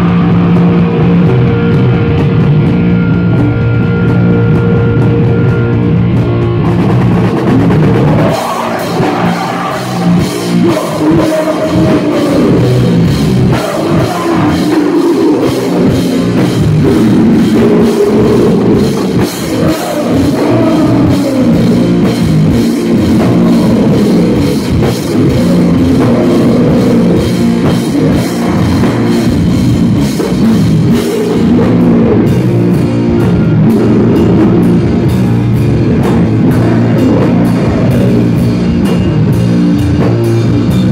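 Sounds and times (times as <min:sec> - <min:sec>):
bass guitar: 0:00.0 - 0:40.9
drum kit with cymbals: 0:00.0 - 0:40.9
electric guitars: 0:00.0 - 0:40.9.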